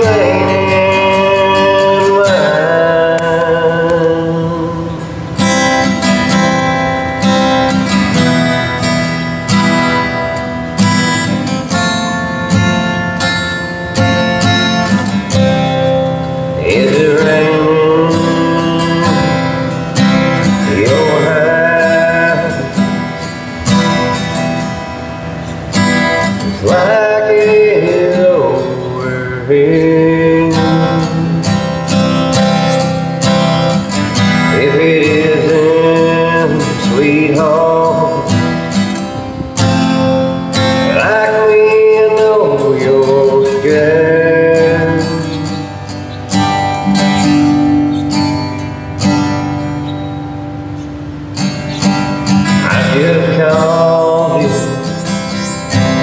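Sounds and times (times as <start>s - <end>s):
man singing country song: 0.0s - 25.1s, 25.7s - 50.0s, 51.4s - 56.0s
strummed acoustic guitar: 0.0s - 56.0s.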